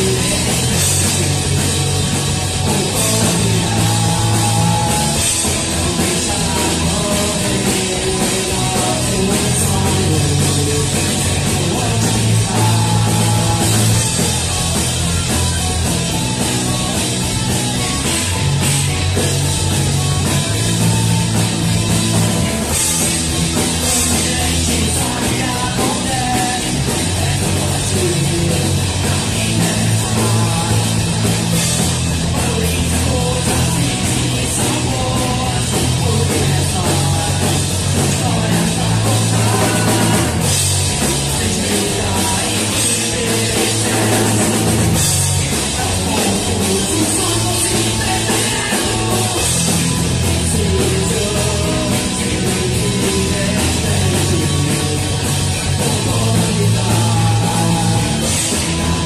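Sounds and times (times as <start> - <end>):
bass guitar: 0.0 - 59.0
drum kit: 0.0 - 59.0
electric guitars: 0.0 - 59.0
person singing: 0.0 - 59.0.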